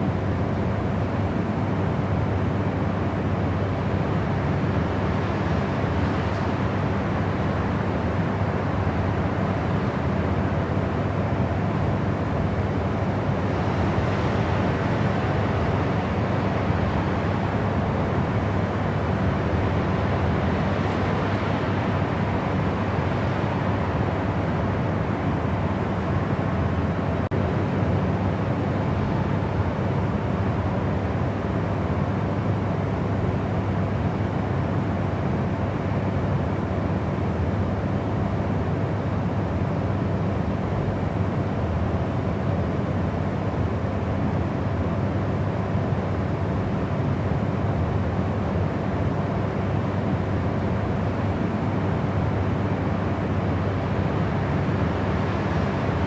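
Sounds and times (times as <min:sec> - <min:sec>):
deep white noise: 0:00.0 - 0:56.0.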